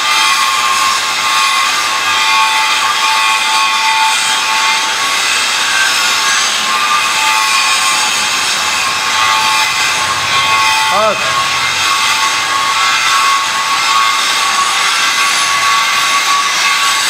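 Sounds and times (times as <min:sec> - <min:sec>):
workshop machinery running: 0:00.0 - 0:17.0.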